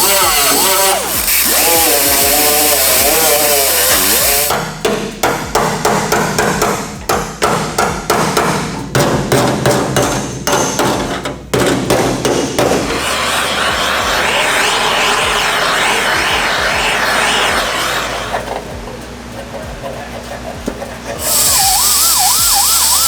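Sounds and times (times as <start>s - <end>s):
steady noise: 0.0s - 9.4s, 11.5s - 23.0s
hammer blows on metal: 0.0s - 18.9s.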